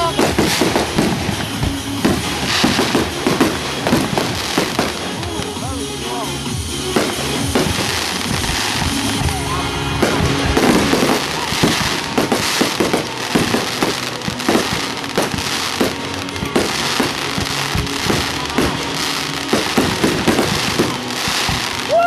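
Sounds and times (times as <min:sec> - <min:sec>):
fireworks bangs: 0:00.0 - 0:22.0
fireworks hissing crackle: 0:00.0 - 0:22.0
music: 0:00.0 - 0:22.0.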